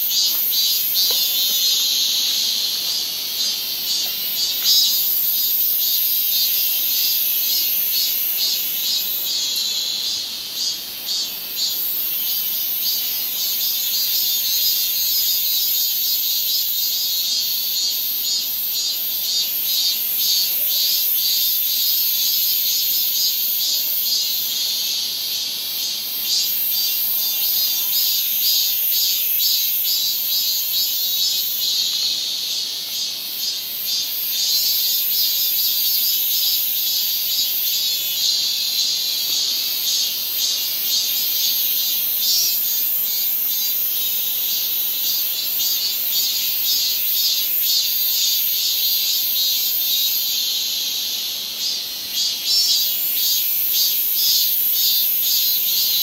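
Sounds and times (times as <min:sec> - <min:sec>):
cicadas chorus: 0:00.0 - 0:56.0.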